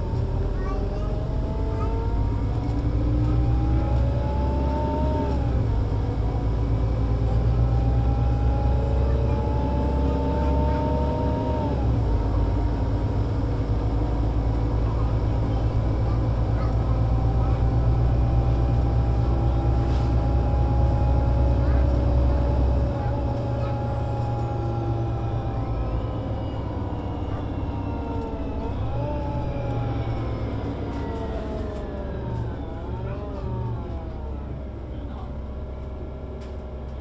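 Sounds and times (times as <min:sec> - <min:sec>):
bus engine rumble: 0:00.0 - 0:37.0.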